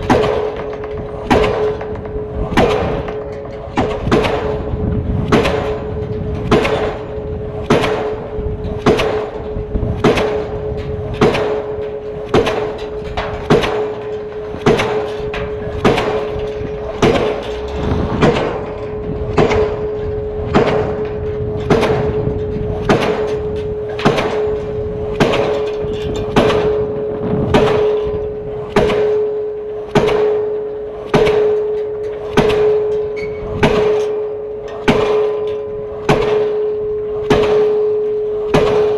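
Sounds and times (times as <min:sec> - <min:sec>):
pile hammer blows: 0:00.0 - 0:38.9
steady ringing tone: 0:00.0 - 0:38.9.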